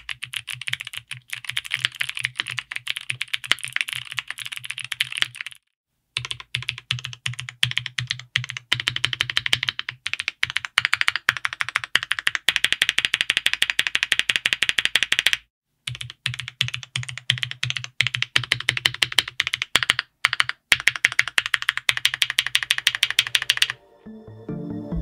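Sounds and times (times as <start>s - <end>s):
mechanical keyboard typing: 0.0s - 5.6s, 6.2s - 23.8s.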